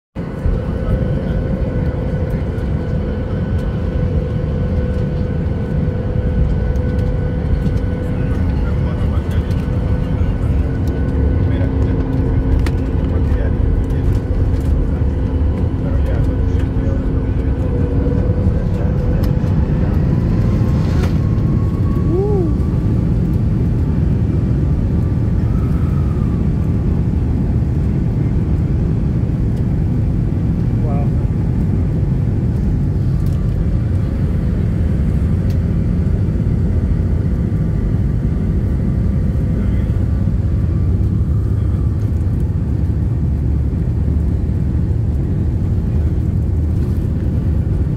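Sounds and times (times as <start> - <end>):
jet engines rumbling in cabin: 0.2 - 47.9.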